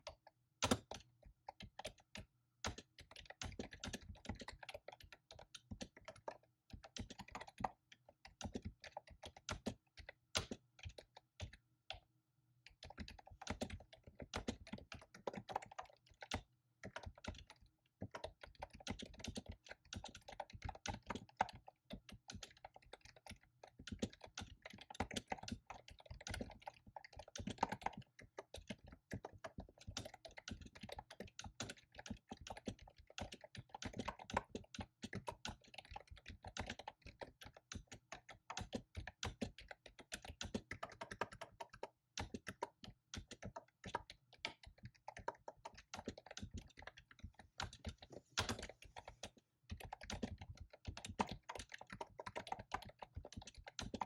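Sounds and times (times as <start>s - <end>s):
fast typing on keyboard: 0.0s - 12.0s, 12.6s - 54.0s.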